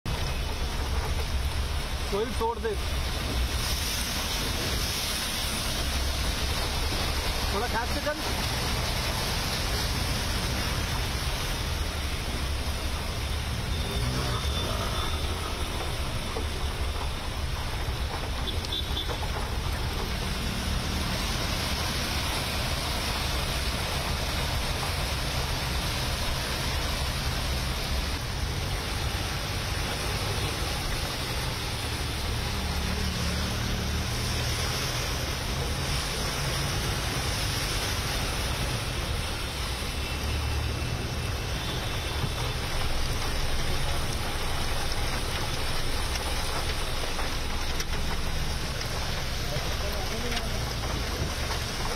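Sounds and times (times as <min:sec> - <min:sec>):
car driving through floodwater: 0:00.1 - 0:51.9
heavy rain falling: 0:00.1 - 0:51.9.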